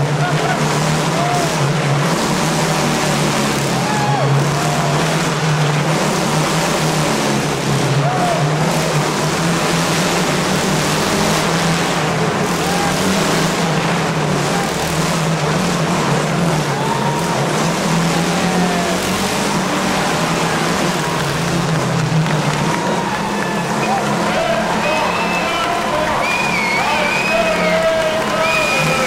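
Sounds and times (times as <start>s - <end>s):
motorcycle engine droning: 0.0s - 29.0s.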